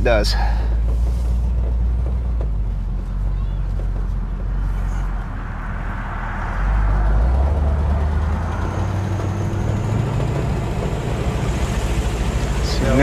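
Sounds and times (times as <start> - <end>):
car engine pulling under throttle: 0.0 - 13.0.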